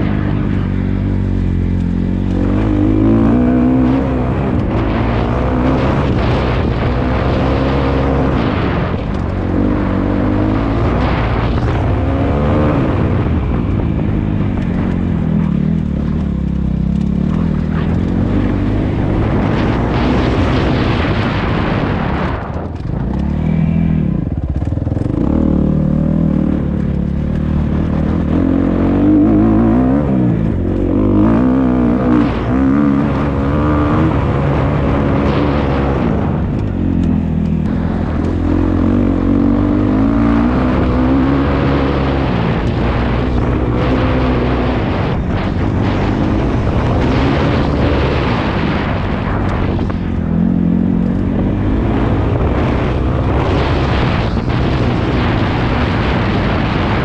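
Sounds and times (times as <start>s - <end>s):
dirt bike engine revving: 0.0s - 22.4s, 23.0s - 57.0s.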